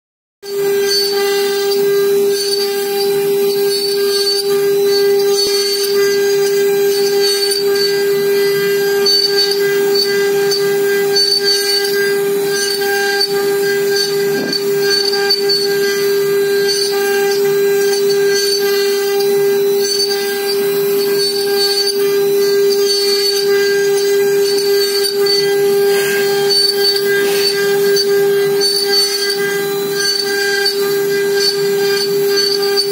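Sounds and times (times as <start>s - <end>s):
router spindle whining: 0.4s - 32.9s.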